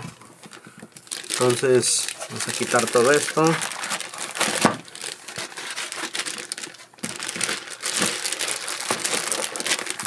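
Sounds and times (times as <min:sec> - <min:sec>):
plastic bag crinkling: 0:00.5 - 0:10.0.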